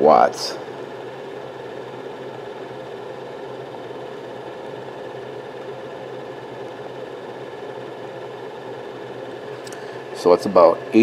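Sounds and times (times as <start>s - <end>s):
machine hum with fan hiss: 0.0s - 11.0s.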